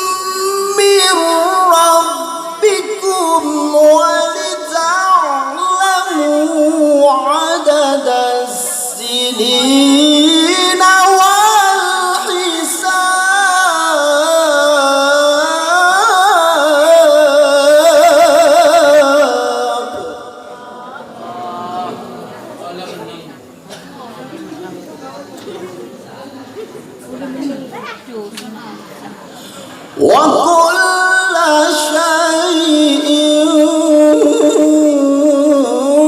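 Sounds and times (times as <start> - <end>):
man reciting melodically: 0.0 - 23.1, 29.8 - 36.0.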